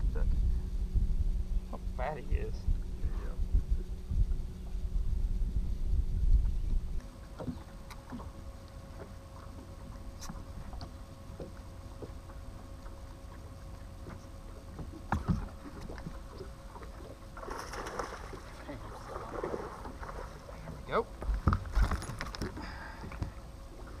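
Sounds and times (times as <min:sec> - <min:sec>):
trolling motor humming: 0:00.0 - 0:24.0.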